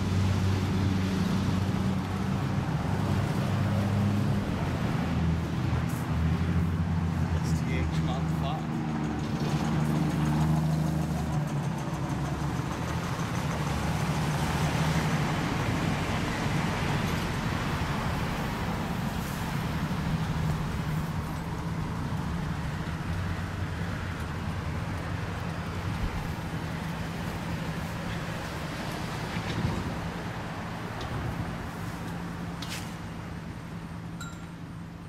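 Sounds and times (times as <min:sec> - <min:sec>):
passing vehicles rushing: 0:00.0 - 0:35.0.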